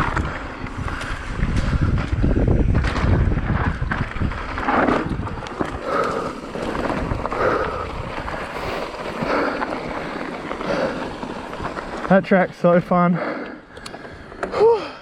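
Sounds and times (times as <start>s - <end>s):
wind buffeting microphone: 0.0s - 12.1s
mountain bike rumbling and rattling: 0.0s - 15.0s.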